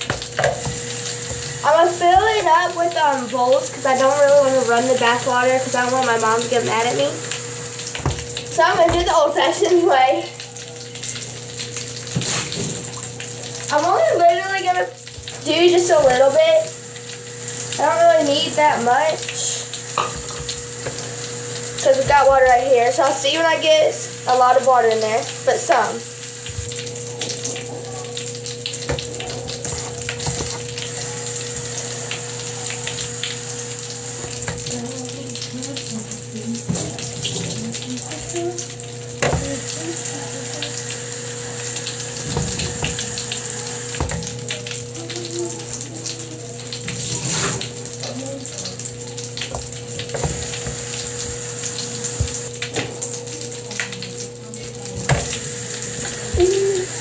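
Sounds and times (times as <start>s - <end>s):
bath crackles popping in water: 0.0s - 57.0s.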